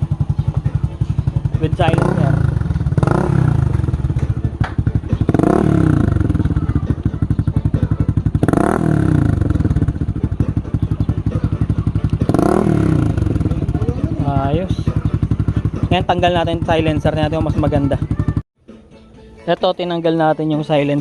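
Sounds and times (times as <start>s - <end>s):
motorcycle engine idling and revving: 0.0s - 18.5s.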